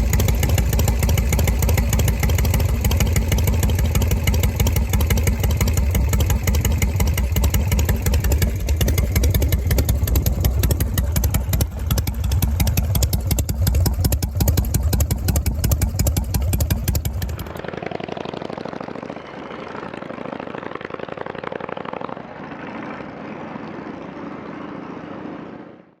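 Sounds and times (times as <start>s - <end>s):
motorcycle exhaust: 0.0s - 25.6s.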